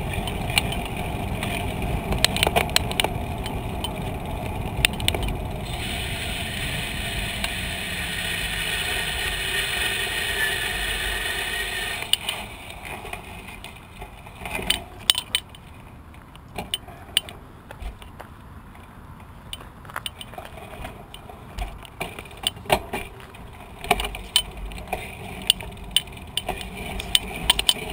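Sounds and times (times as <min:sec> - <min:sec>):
bicycle clicks and rattles: 0:00.0 - 0:18.2, 0:19.5 - 0:27.9
bicycle rolling on pavement: 0:00.0 - 0:27.9.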